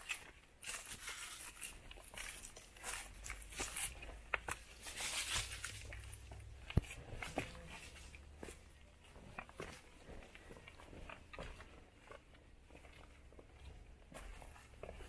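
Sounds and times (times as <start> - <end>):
footsteps on dry leaves and stones: 0.0 - 15.0.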